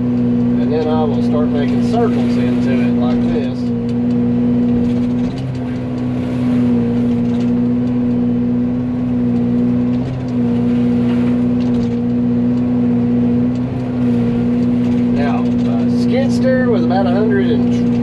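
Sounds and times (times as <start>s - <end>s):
excavator engine and mulcher humming: 0.0s - 18.0s.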